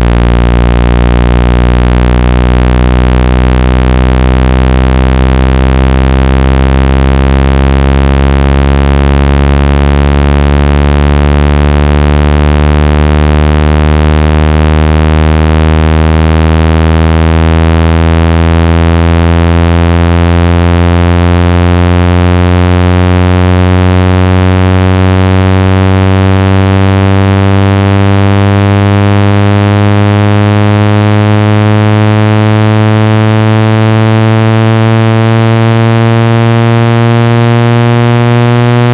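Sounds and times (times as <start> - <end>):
synthesized low buzzing tone: 0.0 - 38.9.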